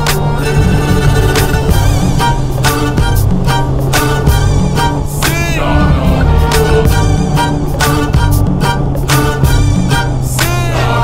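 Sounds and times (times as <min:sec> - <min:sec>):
violin-led hip-hop instrumental: 0:00.0 - 0:11.0.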